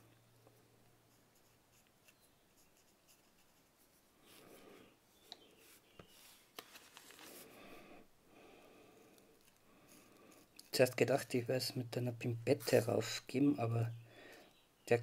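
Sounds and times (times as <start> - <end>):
faint scratching and rubbing: 0.5 - 8.0, 8.9 - 14.0.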